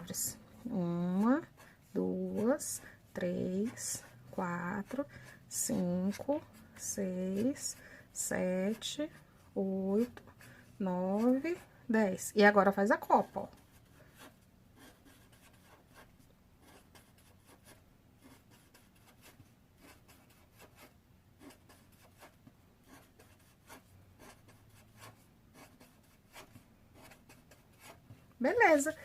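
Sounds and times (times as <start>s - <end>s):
pencil scratching on paper: 0.0s - 29.0s.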